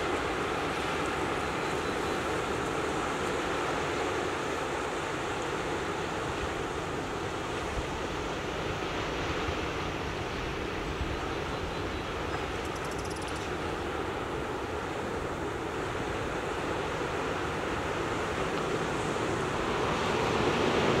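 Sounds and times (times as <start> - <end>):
surf on rocky shore: 0.0 - 21.0.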